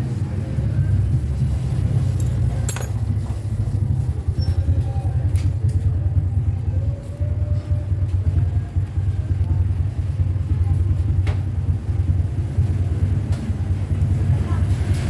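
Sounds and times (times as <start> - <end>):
engine idling: 0.7 - 15.0.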